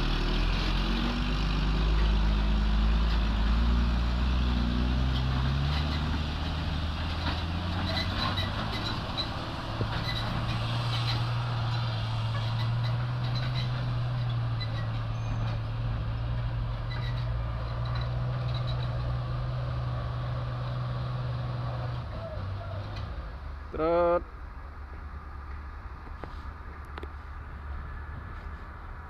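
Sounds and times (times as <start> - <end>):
truck engine droning: 0.0 - 25.3.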